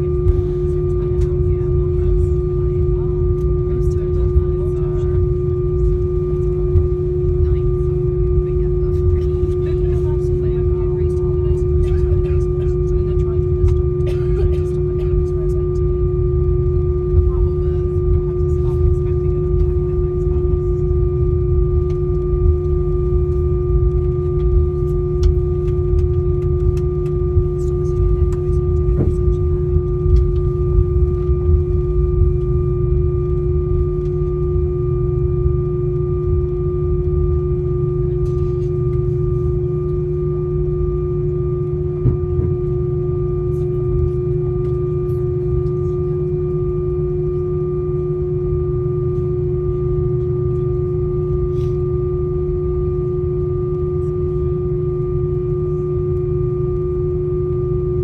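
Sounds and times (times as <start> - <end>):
aircraft cabin whine: 0.0 - 58.0
low rumble: 0.0 - 58.0.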